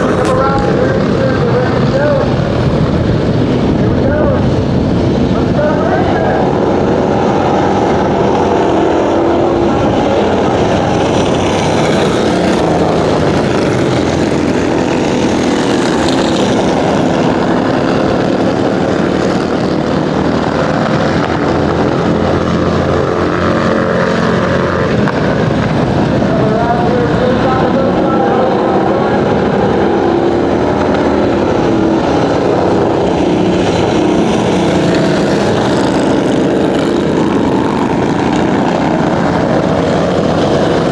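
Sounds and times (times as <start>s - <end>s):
motorcycle engines running: 0.0s - 40.9s.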